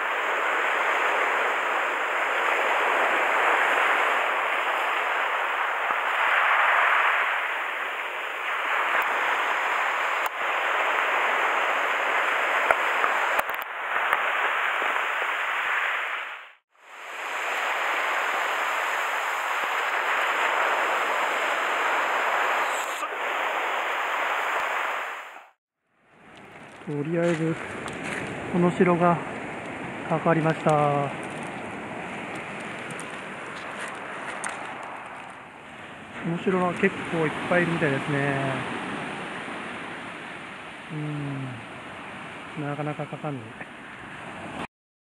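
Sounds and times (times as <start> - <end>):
surf washing on gravel beach: 0.0 - 25.6, 26.3 - 43.4.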